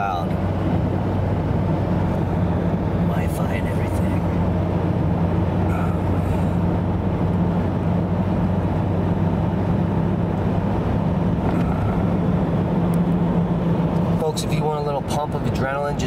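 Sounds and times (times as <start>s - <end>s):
car engine and tyres humming: 0.0s - 16.0s.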